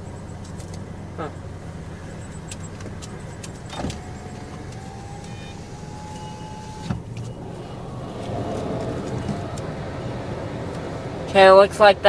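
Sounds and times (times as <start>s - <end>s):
power window motor whining: 0.0s - 11.0s
car engine idling: 0.0s - 12.0s.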